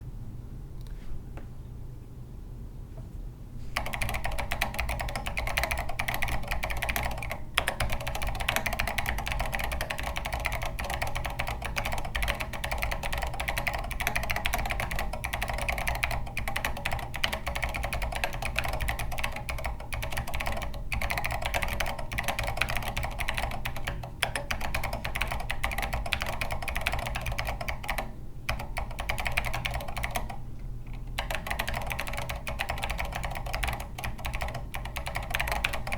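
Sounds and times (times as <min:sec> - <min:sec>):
clicky mechanical keyboard typing: 0:03.8 - 0:35.9.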